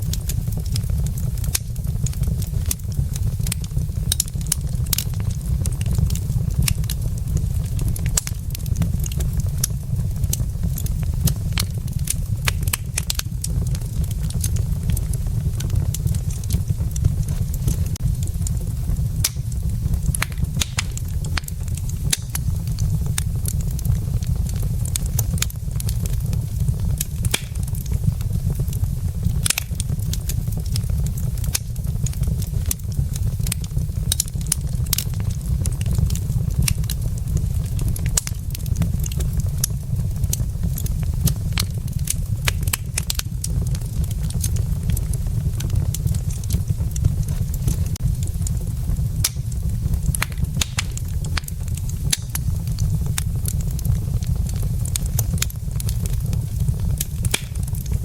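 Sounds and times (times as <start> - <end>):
fire crackling and popping: 0.0 - 58.0
fire low rumble: 0.0 - 58.0.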